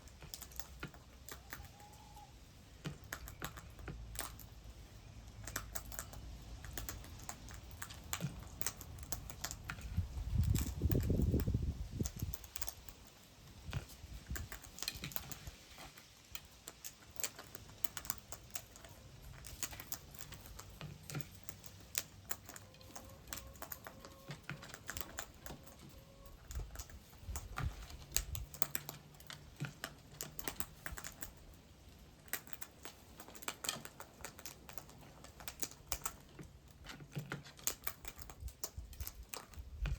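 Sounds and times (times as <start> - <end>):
bird beaks pecking and tapping: 0.0 - 39.9.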